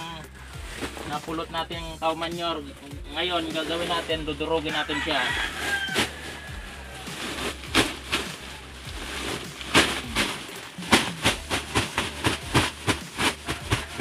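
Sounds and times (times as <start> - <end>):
heavy sack pounding dried manure: 0.0 - 14.0.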